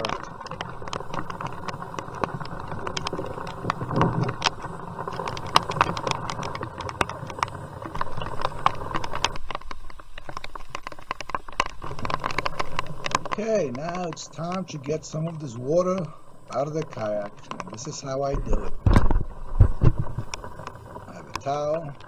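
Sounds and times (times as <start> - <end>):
rain tapping on plastic bag: 0.0 - 22.0
steady rain hiss: 0.0 - 22.0.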